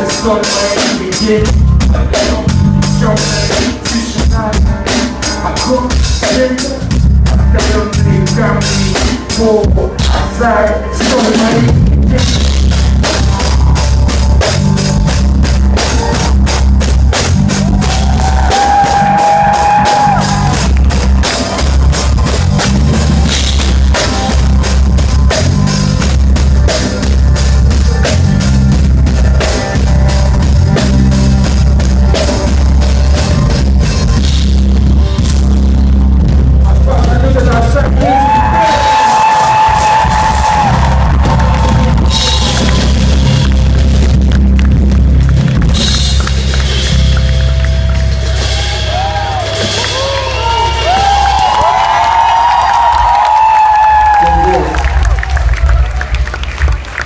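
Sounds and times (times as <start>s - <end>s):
drum kit: 0.0s - 57.0s
live band playing: 0.0s - 57.0s
pulsing bass line: 0.0s - 57.0s.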